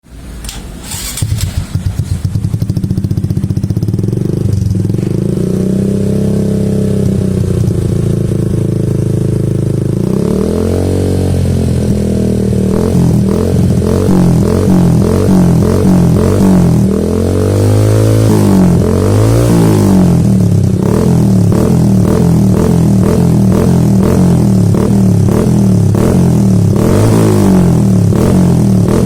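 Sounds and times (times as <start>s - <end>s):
motorcycle engine revving: 0.5s - 29.0s.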